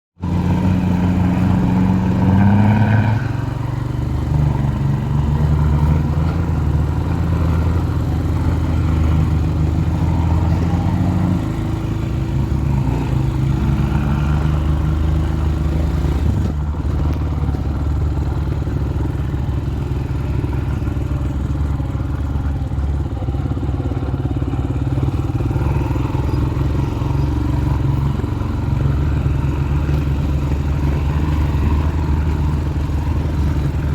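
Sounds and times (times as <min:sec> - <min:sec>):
heavy vehicle engine under load: 0:00.2 - 0:33.9.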